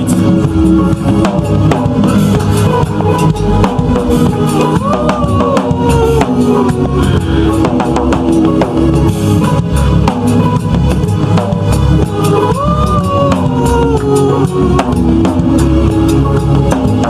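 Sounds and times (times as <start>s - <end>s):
drum kit beat: 0.0s - 17.0s
low bass notes: 0.0s - 17.0s.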